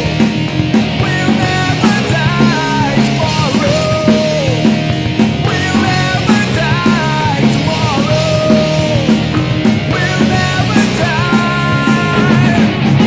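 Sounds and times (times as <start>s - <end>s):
rock song: 0.0s - 13.0s.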